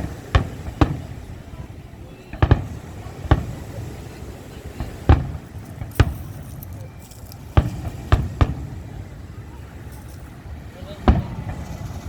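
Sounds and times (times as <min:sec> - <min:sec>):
fireworks exploding: 0:00.0 - 0:12.0.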